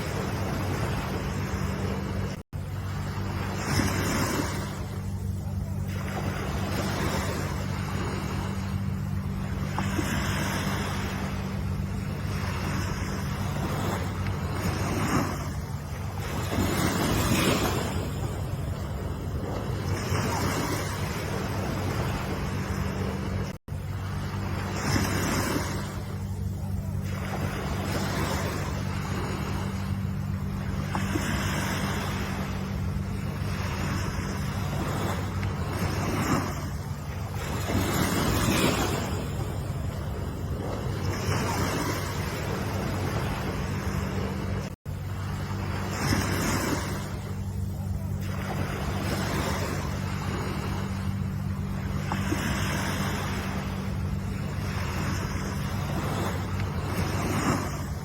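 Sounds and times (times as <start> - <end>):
ocean waves washing in: 0.0 - 58.0
steady low hum: 0.0 - 58.0
steady low rumble: 0.0 - 58.0.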